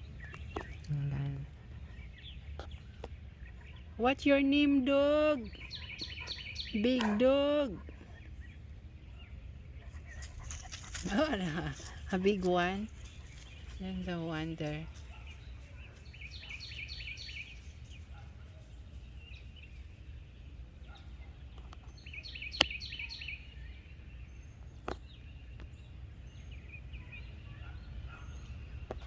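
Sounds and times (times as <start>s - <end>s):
birds chirping: 0.0s - 29.0s
low outdoor rumble: 0.0s - 29.0s.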